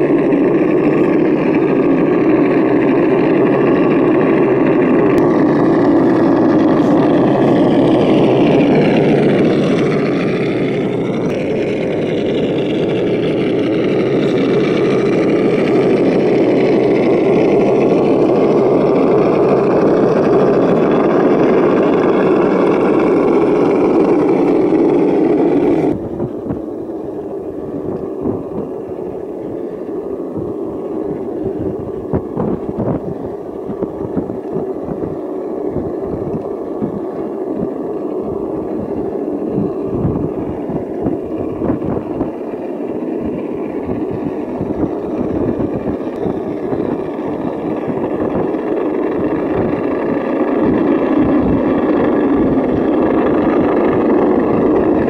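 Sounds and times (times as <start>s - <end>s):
simulated engine sound: 0.0s - 55.0s.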